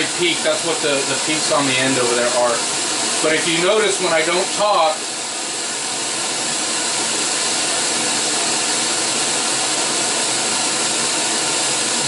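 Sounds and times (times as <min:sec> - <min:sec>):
pink noise hiss from speaker: 0:00.0 - 0:12.0.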